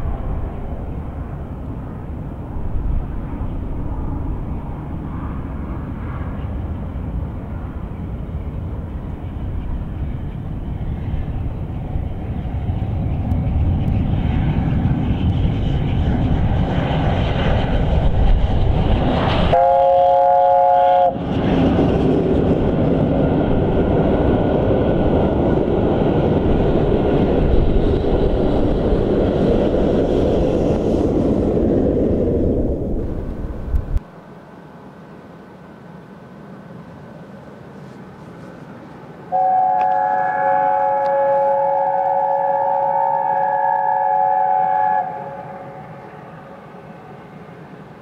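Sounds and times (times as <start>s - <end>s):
steam locomotive: 0.0s - 48.0s
wheels rumbling on rails: 0.0s - 48.0s.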